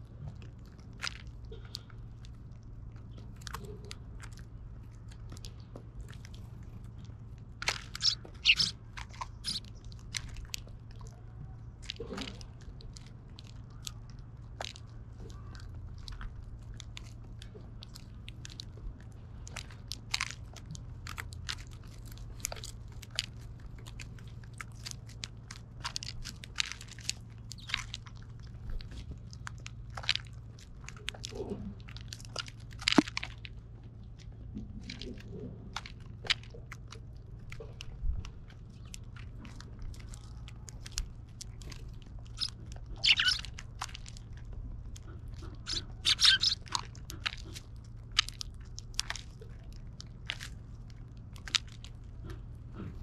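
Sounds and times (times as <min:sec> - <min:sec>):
birds cracking seeds: 0:00.9 - 0:11.0, 0:19.4 - 0:53.0.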